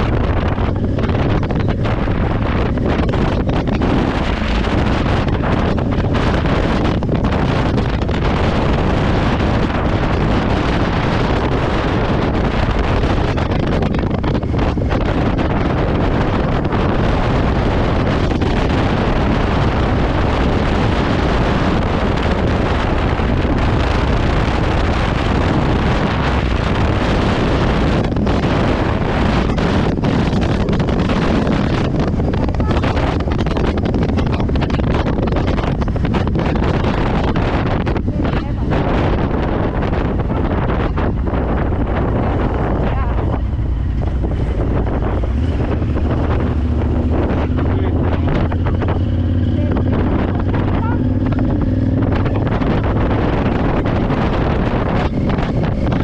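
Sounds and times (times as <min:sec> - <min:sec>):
motorcycle engine and road noise: 0:00.0 - 0:56.0
wind rushing over microphone: 0:00.0 - 0:56.0.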